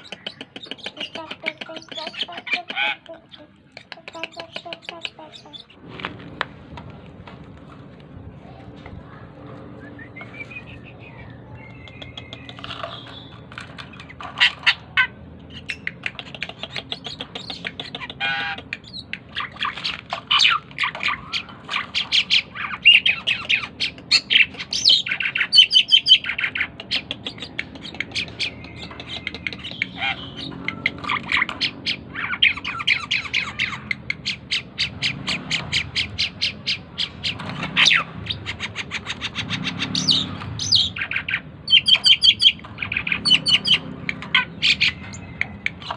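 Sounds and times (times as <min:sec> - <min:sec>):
starling squawks and chirps: 0:00.0 - 0:05.8, 0:10.4 - 0:45.9.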